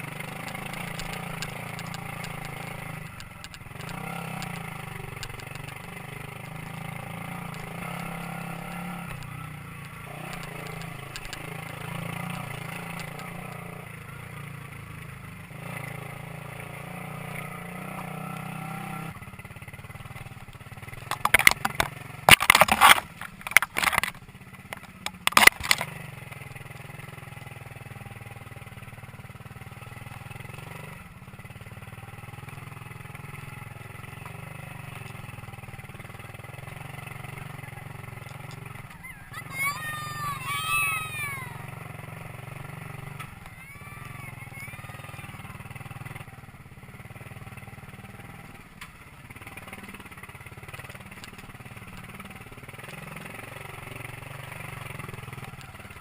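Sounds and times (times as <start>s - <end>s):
two-stroke motorcycle engine running: 0.0s - 56.0s.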